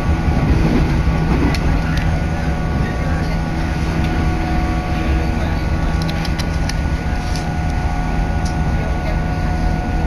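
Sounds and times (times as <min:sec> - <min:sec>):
constant whine: 0:00.0 - 0:10.0
train rumbling: 0:00.0 - 0:10.0.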